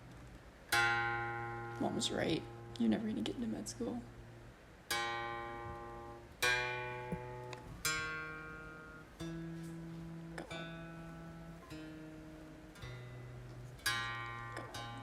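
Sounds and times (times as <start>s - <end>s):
slow acoustic guitar chords: 0.0s - 3.0s, 4.1s - 15.0s.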